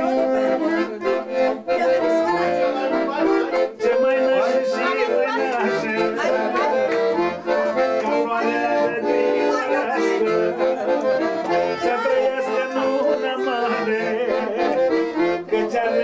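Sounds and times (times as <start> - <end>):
accordion playing a fast melody: 0.0 - 16.0.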